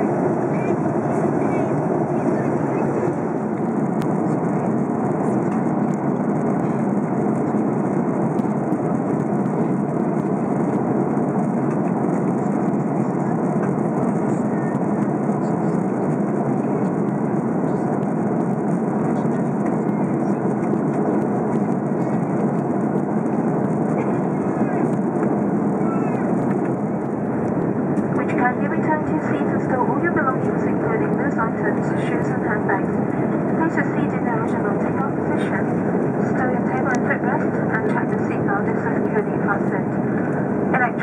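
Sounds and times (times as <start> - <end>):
airplane cabin roar: 0.0 - 41.0.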